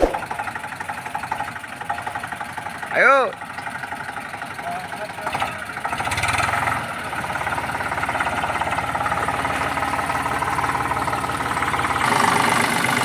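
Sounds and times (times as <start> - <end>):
tractor diesel engine running: 0.3 - 13.0.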